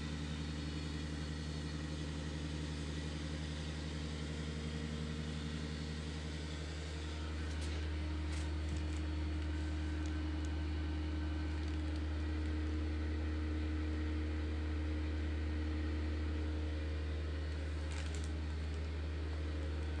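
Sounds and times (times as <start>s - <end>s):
low electric hum: 0.0s - 20.0s.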